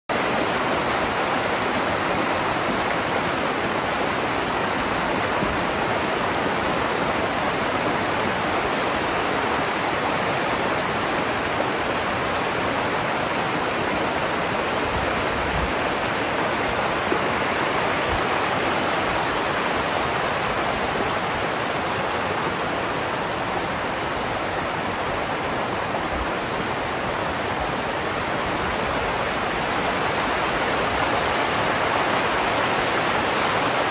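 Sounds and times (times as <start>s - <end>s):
river water roaring: 0.1s - 33.9s.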